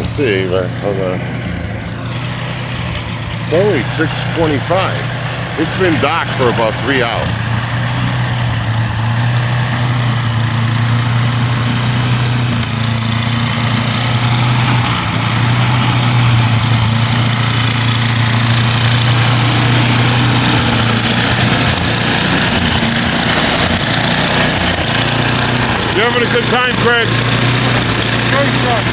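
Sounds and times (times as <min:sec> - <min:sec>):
engine running steadily: 0:00.0 - 0:28.9.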